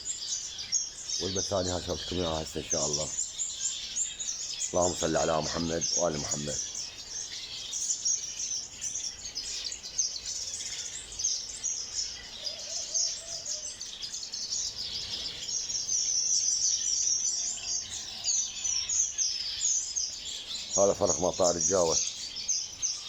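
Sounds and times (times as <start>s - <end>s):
finches chirping: 0.0s - 23.0s.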